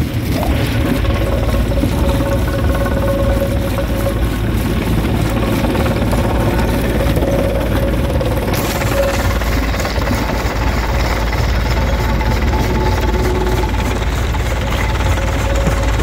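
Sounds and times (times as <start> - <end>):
stone crusher rumbling: 0.0 - 16.0.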